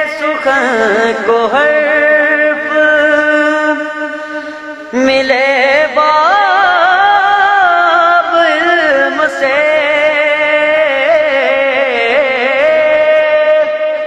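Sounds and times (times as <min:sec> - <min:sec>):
person singing ornamented notes: 0:00.0 - 0:14.0.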